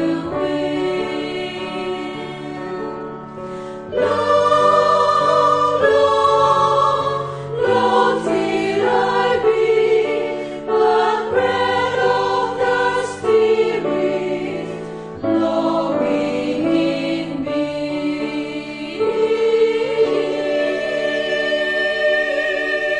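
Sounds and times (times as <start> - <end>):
choir singing a hymn: 0.0 - 22.9.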